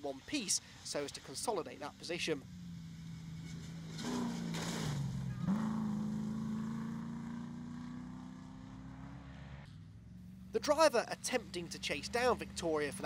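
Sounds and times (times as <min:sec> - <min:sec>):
car engine running hard: 0:00.6 - 0:13.0.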